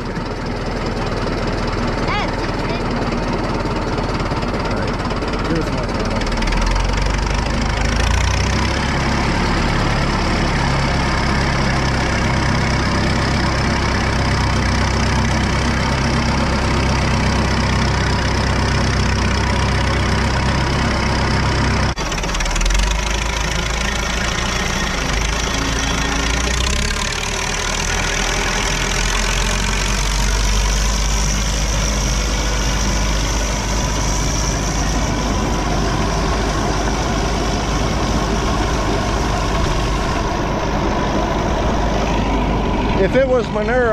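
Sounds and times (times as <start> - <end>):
manure spreader working: 0.0 - 43.9
tractor engine running: 0.0 - 43.9.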